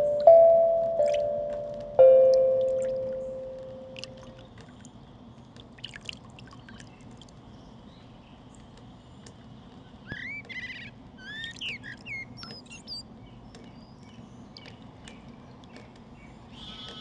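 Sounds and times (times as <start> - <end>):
birds chirping and trilling: 0.0 - 5.4, 6.4 - 17.0
low background rumble: 0.0 - 17.0.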